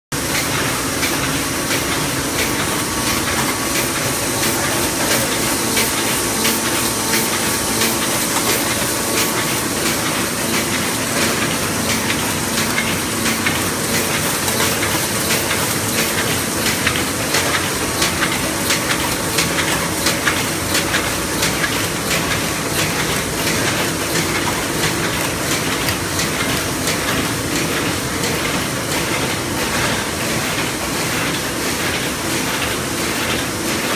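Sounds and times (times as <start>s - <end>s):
machine mechanical clatter: 0.2s - 33.9s.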